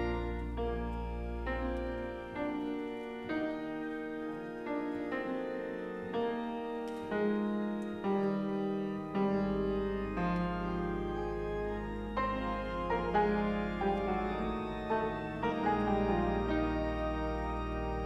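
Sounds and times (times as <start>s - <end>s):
slow keyboard chords: 0.0s - 18.0s.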